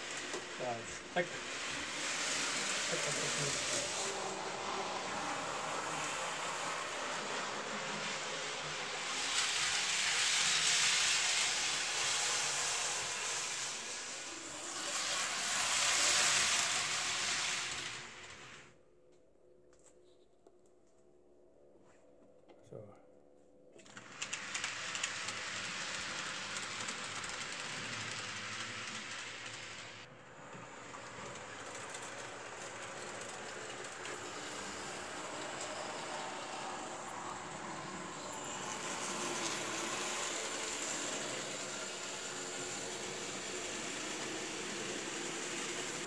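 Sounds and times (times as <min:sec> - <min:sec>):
model trains rattling on track: 0:00.0 - 0:18.6, 0:23.9 - 0:46.0.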